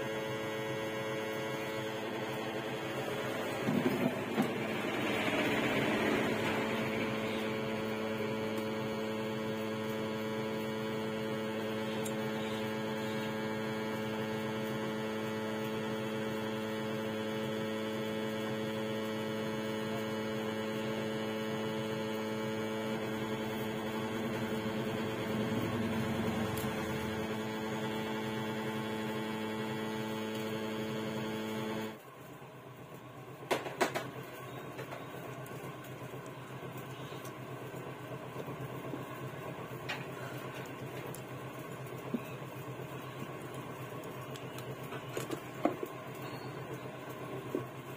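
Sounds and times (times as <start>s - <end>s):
steady electrical hum: 0.0s - 47.9s.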